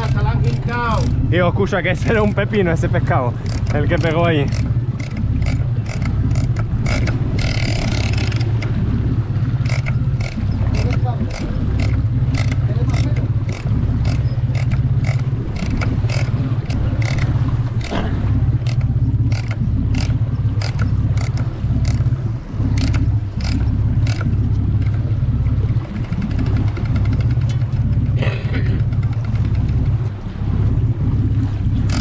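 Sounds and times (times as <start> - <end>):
boat engine humming: 0.0 - 32.0.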